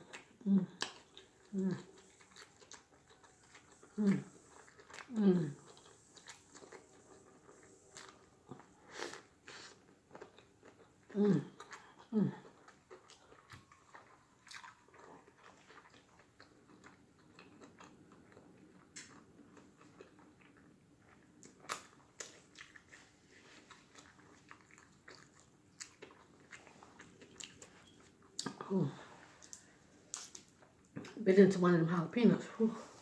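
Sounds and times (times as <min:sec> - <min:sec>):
person chewing food: 0:00.0 - 0:31.2.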